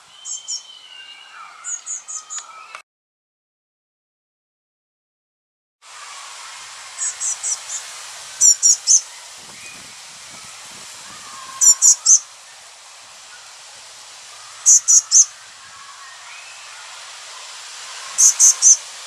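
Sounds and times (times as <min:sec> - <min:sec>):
bird giving thin high calls: 0:00.0 - 0:02.8, 0:06.0 - 0:19.0
faint steady hiss: 0:00.0 - 0:02.8, 0:05.8 - 0:19.0.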